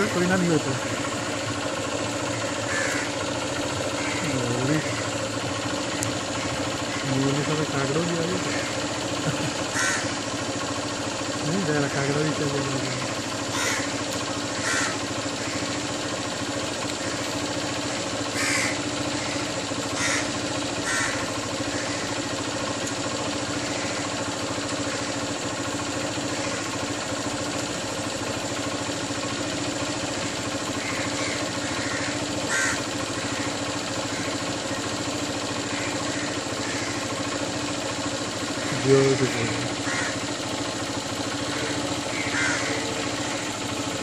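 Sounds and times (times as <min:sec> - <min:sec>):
steady background hum: 0:00.0 - 0:44.0
crows cawing: 0:00.5 - 0:10.7, 0:13.4 - 0:27.5, 0:29.8 - 0:43.8.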